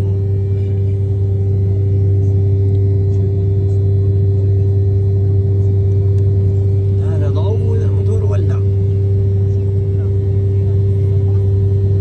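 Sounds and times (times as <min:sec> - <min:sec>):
jet engines drone in cabin: 0:00.0 - 0:12.0.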